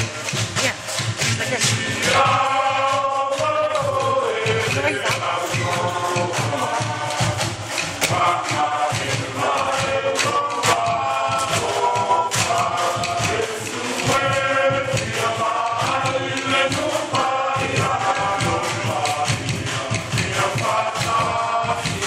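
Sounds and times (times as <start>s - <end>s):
group singing in chorus: 0.0s - 22.0s
sharp percussive hits: 0.0s - 22.0s.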